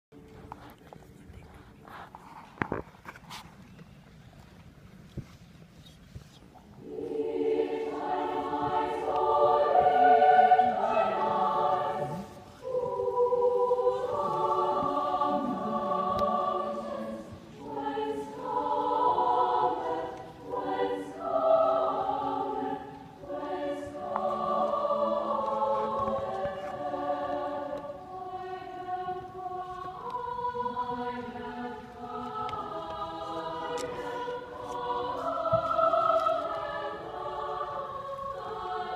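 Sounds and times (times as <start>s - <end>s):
choir singing: 6.8s - 38.9s.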